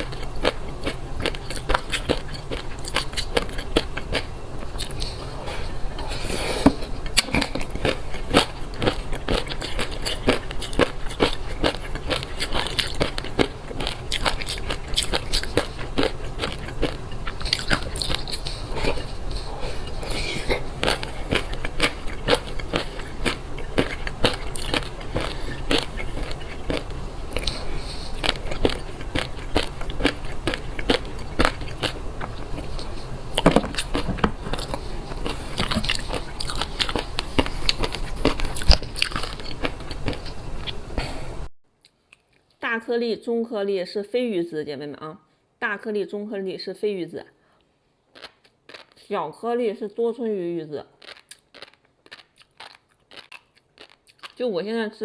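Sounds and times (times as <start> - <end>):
chewing fish roe: 0.0 - 40.9, 48.1 - 49.1, 50.9 - 54.4.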